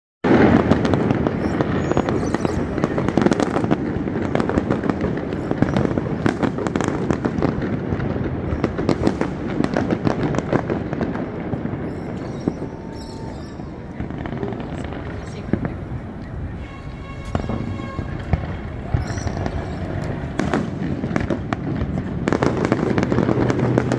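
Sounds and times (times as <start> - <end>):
fireworks bangs and crackles: 0.2 - 23.9.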